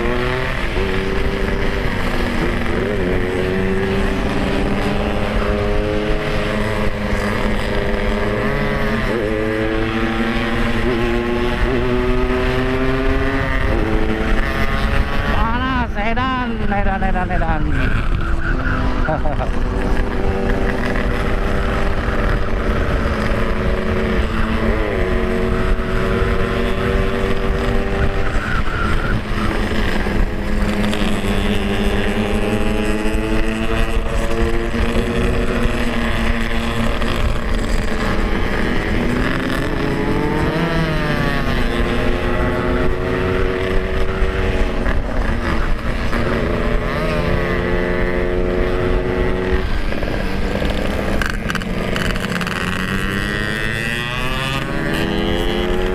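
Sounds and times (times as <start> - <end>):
motorcycle engine shifting gears: 0.0 - 55.9.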